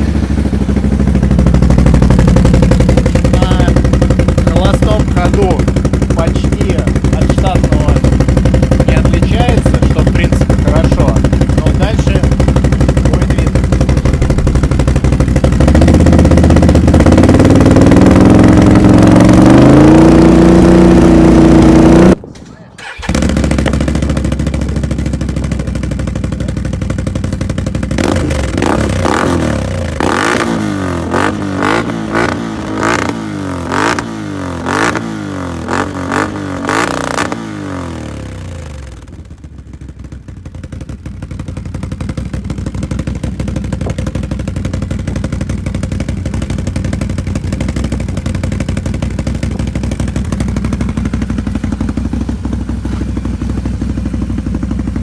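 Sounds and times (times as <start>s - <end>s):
atv engine idling and revving: 0.0s - 55.0s.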